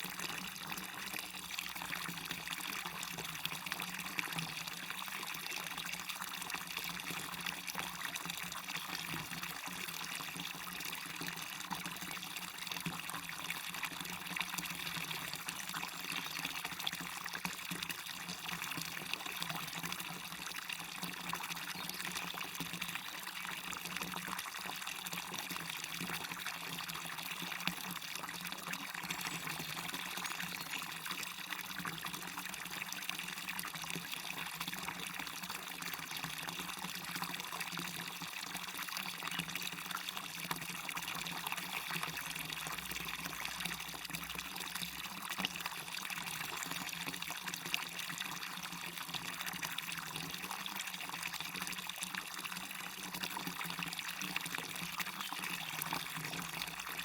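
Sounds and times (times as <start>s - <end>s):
waterfall splashing and trickling: 0.0s - 57.0s.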